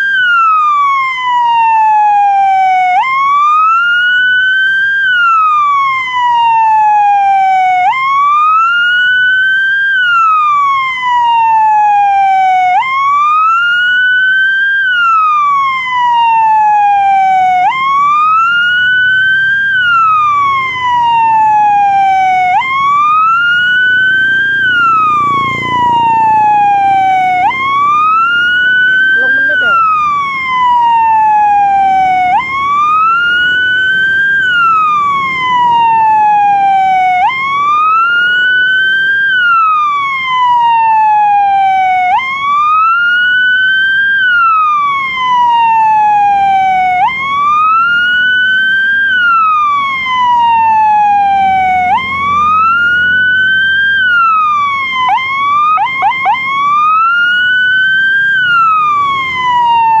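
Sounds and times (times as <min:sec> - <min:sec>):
fire engine siren wailing: 0:00.0 - 1:00.0.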